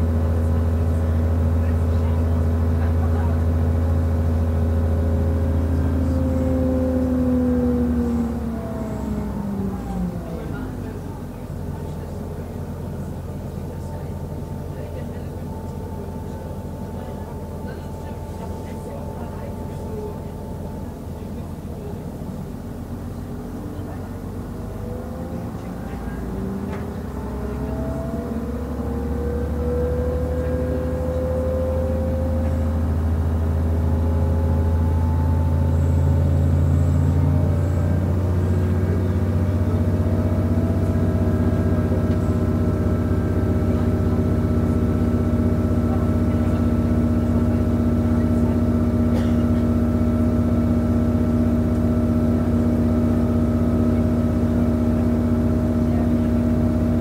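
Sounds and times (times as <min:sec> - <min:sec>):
diesel railcar engine pulling: 0:00.0 - 0:57.0.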